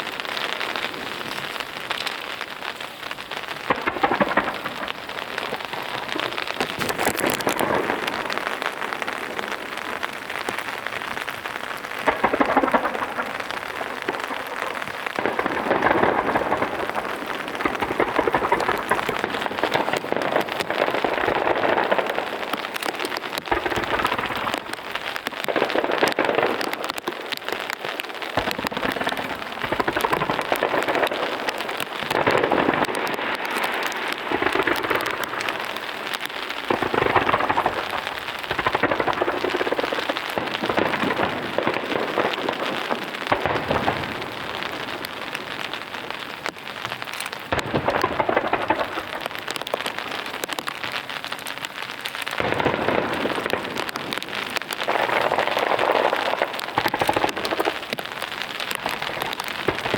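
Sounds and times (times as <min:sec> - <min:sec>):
fireworks booming: 0:00.0 - 0:59.9
heavy rain pattering: 0:00.0 - 0:59.9.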